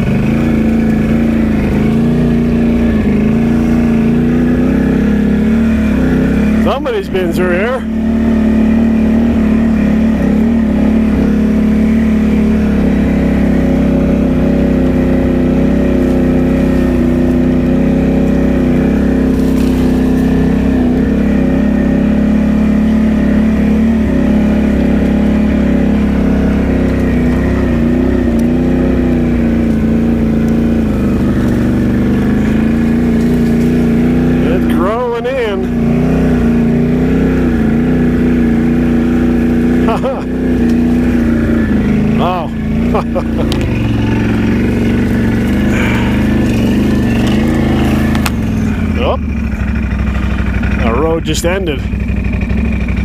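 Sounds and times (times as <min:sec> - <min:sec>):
atv engine running: 0:00.0 - 0:53.0.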